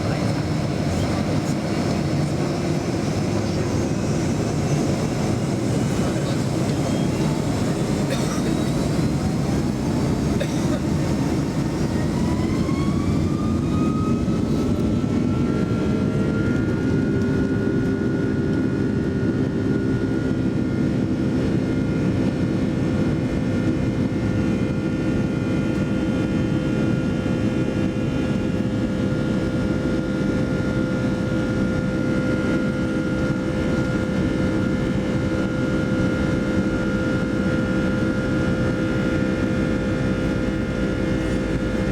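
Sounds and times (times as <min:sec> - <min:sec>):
jet engines whining and roaring: 0:00.0 - 0:41.9.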